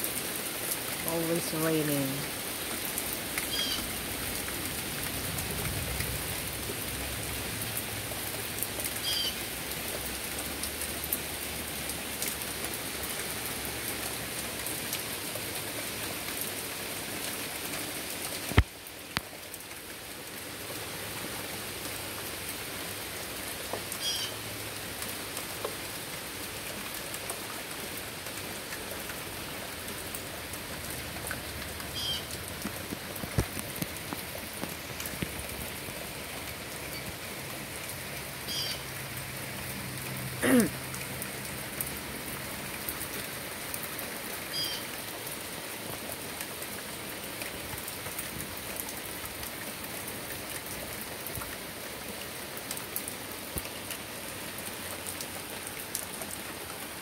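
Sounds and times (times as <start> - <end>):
heavy rain on wooden deck: 0.0 - 57.0.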